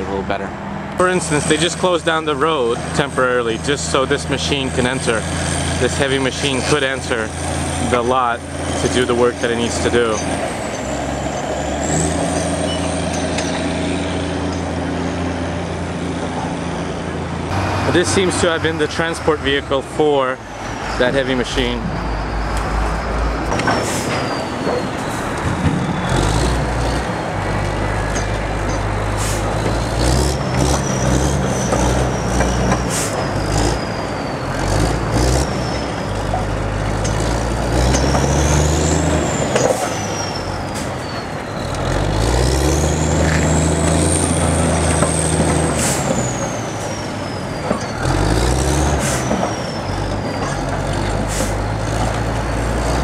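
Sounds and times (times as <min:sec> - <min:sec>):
crane diesel engine revving: 0:00.8 - 0:53.0.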